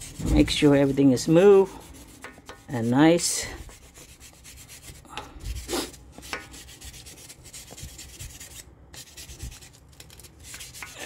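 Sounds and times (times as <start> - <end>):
wire brush scrubbing: 0.0 - 11.0.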